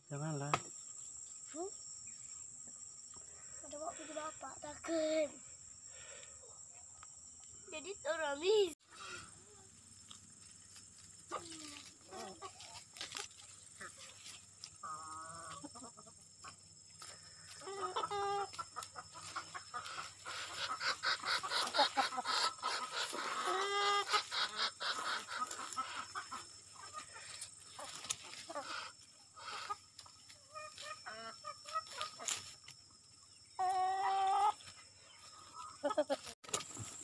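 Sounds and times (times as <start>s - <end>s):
chickens clucking: 2.3s - 8.2s, 8.9s - 37.0s.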